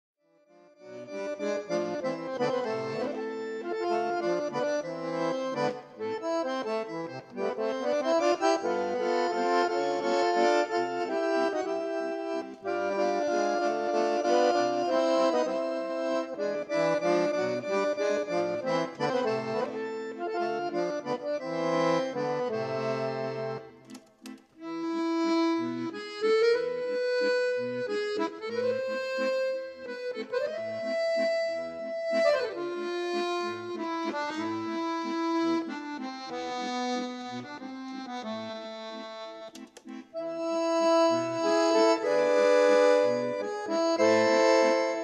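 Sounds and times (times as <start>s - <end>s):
accordion music: 0.5s - 45.0s.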